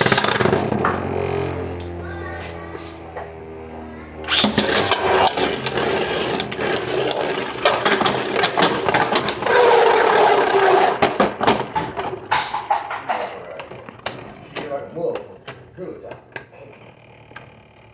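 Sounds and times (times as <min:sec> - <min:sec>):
tops scraping: 0:01.0 - 0:03.2, 0:04.2 - 0:17.9.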